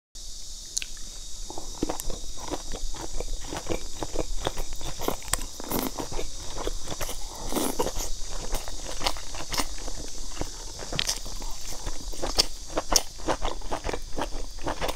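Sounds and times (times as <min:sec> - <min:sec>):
chewing and lip smacking: 0:00.8 - 0:14.9.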